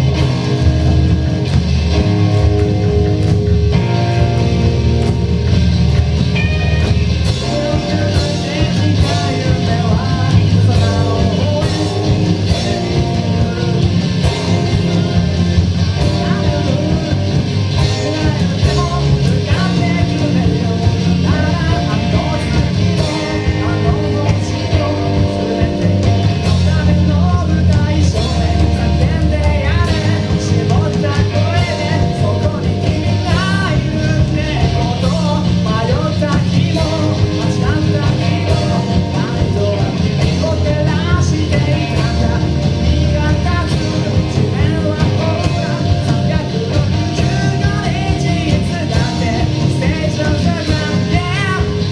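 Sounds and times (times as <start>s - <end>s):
person singing: 0.0s - 51.9s
rock band playing: 0.0s - 51.9s.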